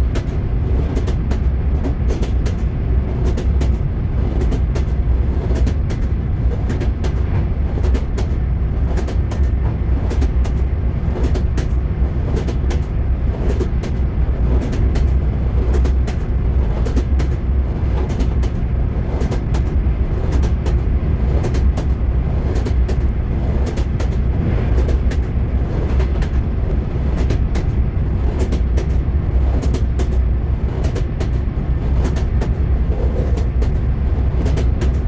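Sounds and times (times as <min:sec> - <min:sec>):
low rumble of moving train: 0:00.0 - 0:35.0
train wheels clacking over rail joints: 0:00.0 - 0:35.0.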